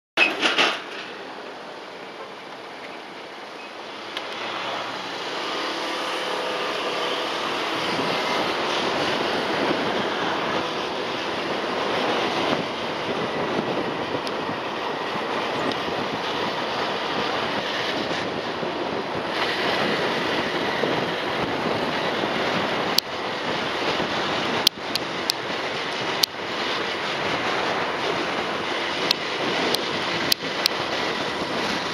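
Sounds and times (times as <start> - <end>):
wind and road noise: 0.2 - 31.9.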